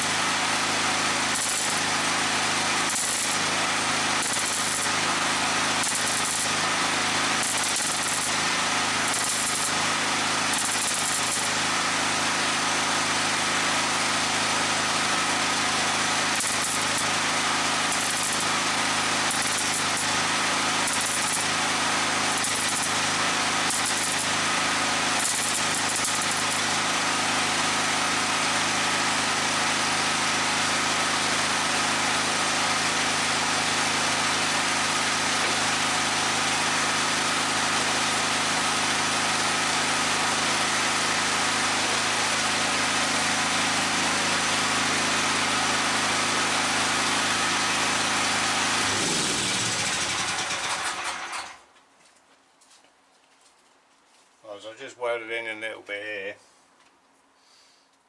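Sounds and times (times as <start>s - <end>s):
angle grinder on steel: 0.0s - 29.6s, 31.8s - 51.5s.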